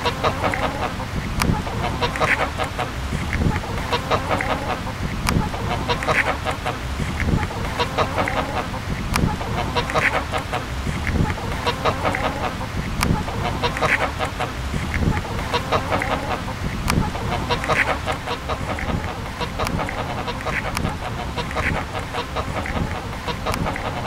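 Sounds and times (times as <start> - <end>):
hen clucking: 0.0 - 24.0
pecking clicks on ground: 0.0 - 24.0.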